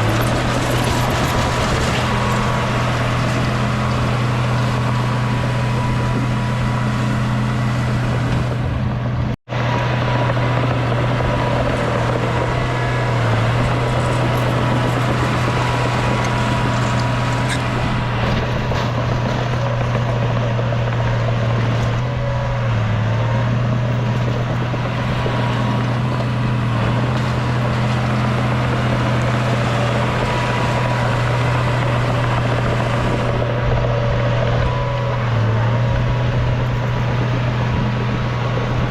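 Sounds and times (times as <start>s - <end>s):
bulldozer engine droning: 0.0s - 38.9s.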